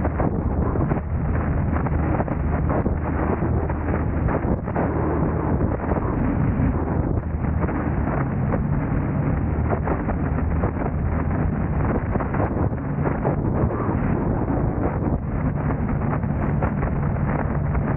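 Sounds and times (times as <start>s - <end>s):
car engine and road noise: 0.0s - 17.9s
wind buffeting microphone: 0.0s - 17.9s.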